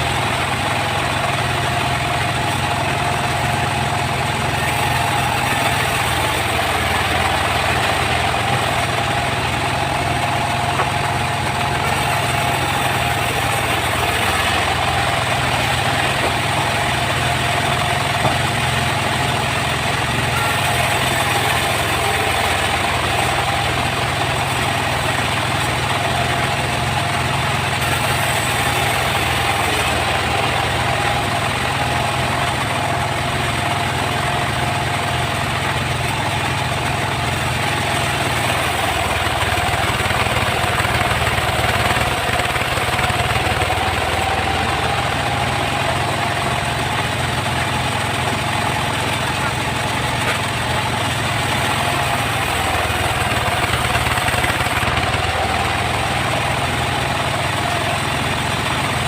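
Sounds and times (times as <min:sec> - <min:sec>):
sawmill machinery hum: 0:00.0 - 0:59.0.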